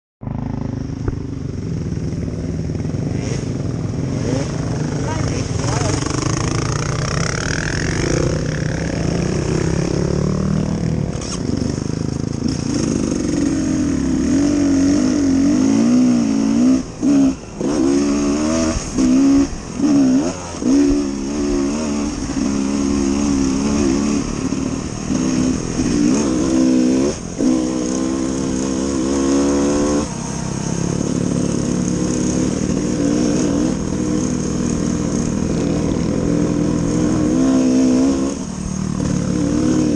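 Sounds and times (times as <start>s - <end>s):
dirt bike engine revving: 0.2s - 39.9s.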